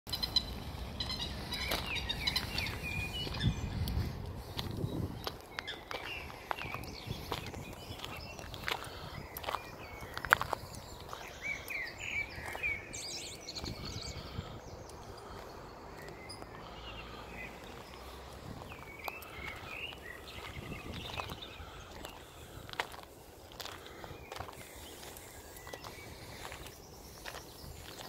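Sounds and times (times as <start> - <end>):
low outdoor rustling: 0.1 - 28.0
songbirds chirping: 0.1 - 28.0.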